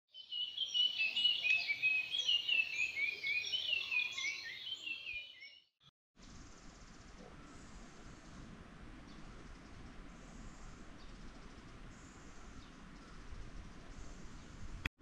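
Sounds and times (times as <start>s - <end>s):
small birds chirping: 0.1s - 14.9s.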